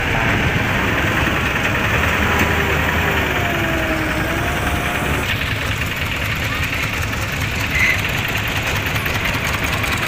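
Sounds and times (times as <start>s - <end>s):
road noise: 0.0s - 10.0s
vehicle engine droning: 0.0s - 10.0s.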